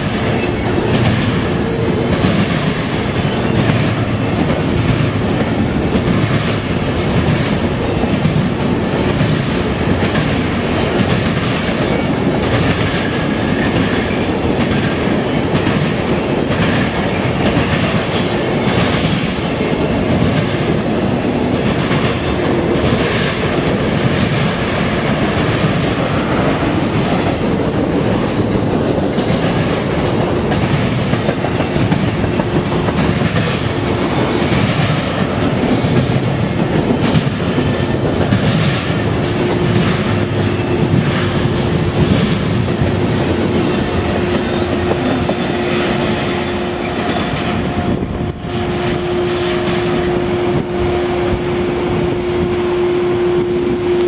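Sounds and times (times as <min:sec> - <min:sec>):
wheels clicking over rail joints: 0:00.0 - 0:45.4
steel wheels running on rail: 0:00.0 - 0:54.0.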